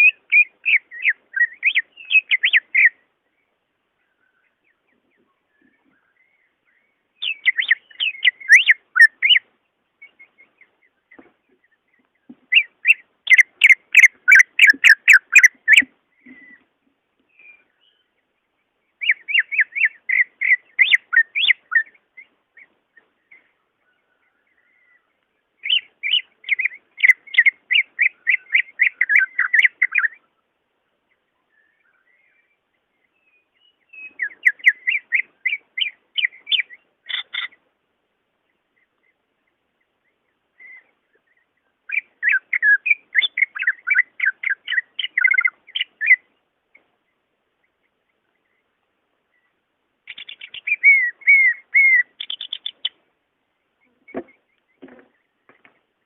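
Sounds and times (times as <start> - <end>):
bird chattering song: 0.0 - 37.7, 38.3 - 56.0.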